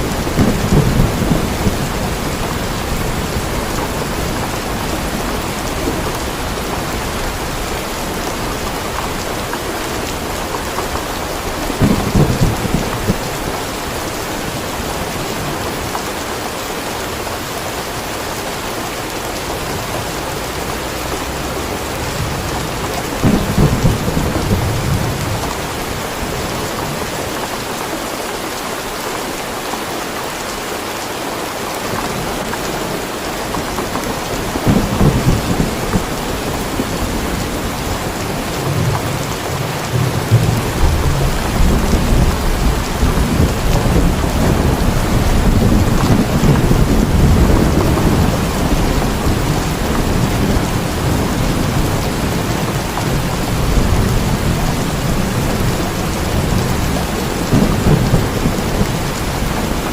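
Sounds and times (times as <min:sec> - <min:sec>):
low thunder rumbles: 0:00.0 - 0:16.0, 0:19.0 - 0:27.1, 0:32.1 - 0:59.9
steady rain falling: 0:00.0 - 0:59.9.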